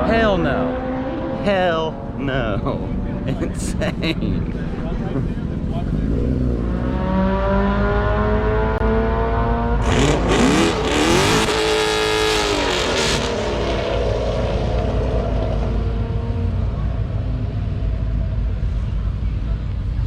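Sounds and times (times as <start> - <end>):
race car engine revving: 0.0 - 18.1.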